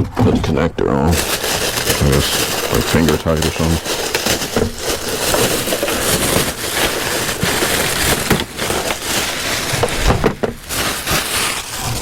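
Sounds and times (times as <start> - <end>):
packaging crinkling: 0.2 - 12.0.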